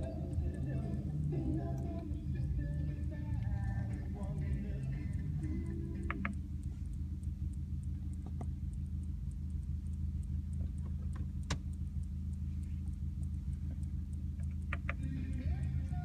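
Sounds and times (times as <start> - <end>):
car engine idling: 0.0 - 16.0
sharp clicks: 0.0 - 16.0.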